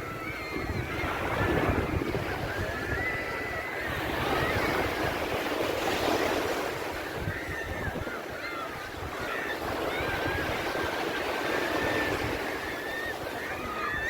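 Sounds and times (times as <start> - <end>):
sea waves washing onto beach: 0.0 - 14.0
wind buffeting microphone: 0.0 - 14.0.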